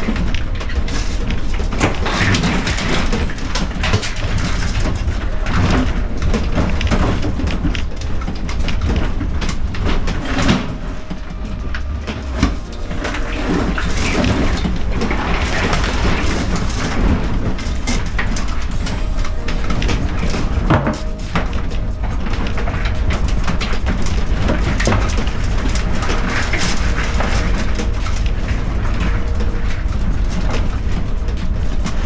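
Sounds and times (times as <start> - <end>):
vehicle rumbling off-road: 0.0 - 32.0.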